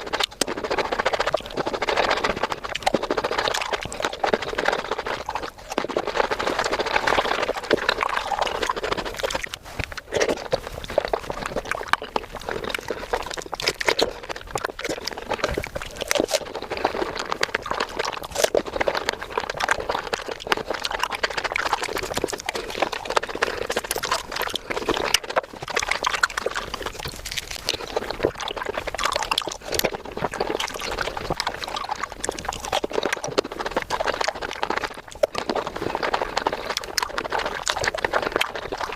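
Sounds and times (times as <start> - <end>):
sped up fruit chewing and crunching: 0.0 - 38.9.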